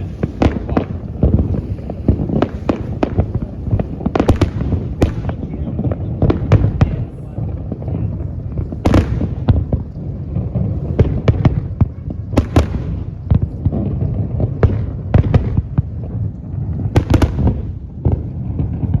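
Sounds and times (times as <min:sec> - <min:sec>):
fireworks bangs and crackles: 0:00.0 - 0:19.0
low rumble of bursts: 0:00.0 - 0:19.0.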